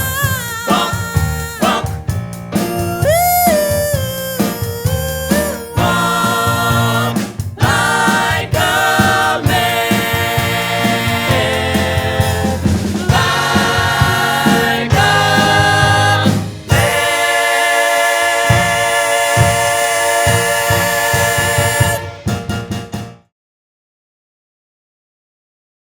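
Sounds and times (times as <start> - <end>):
male voices singing in harmony: 0.0 - 2.0, 2.8 - 22.2
band accompaniment: 0.0 - 23.2.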